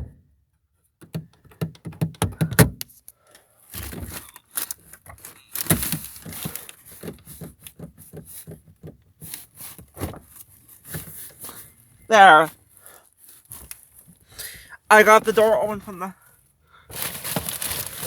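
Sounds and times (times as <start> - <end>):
rustling handling noise: 2.9 - 18.0.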